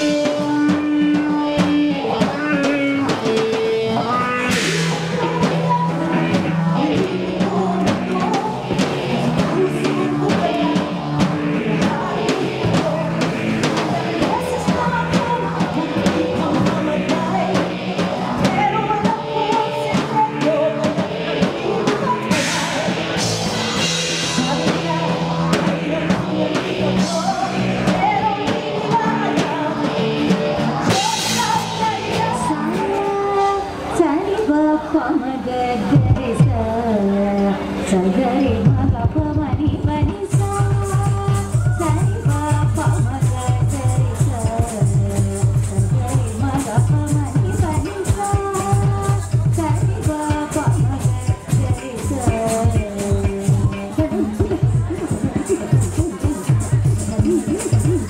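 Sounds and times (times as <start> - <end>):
drum kit beat: 0.0 - 33.4, 38.6 - 58.0
rock song with singing: 0.0 - 58.0.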